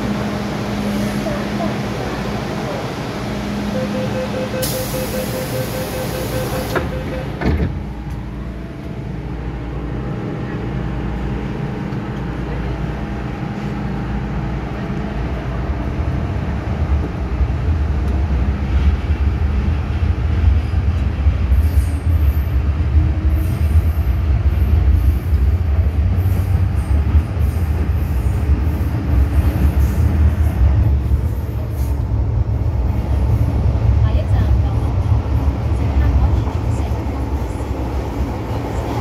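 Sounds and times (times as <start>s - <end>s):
metro train low rumble: 0.0s - 39.0s.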